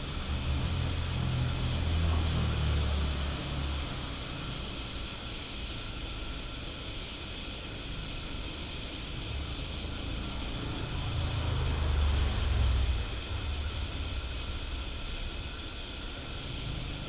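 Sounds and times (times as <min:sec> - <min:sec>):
pressure lantern hissing: 0:00.0 - 0:17.0.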